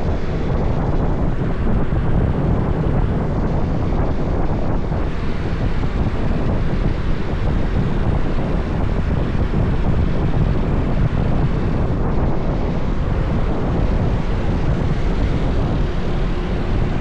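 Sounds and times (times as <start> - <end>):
motorbike engine running: 0.0 - 17.0
road noise: 0.0 - 17.0
wind buffeting microphone: 0.0 - 17.0.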